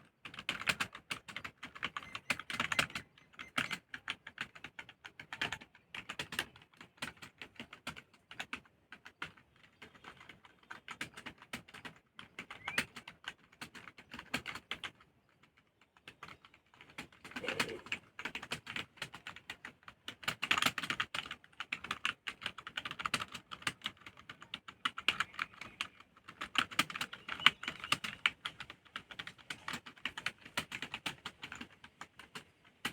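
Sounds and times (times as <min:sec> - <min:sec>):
keyboard typing: 0:00.2 - 0:32.9.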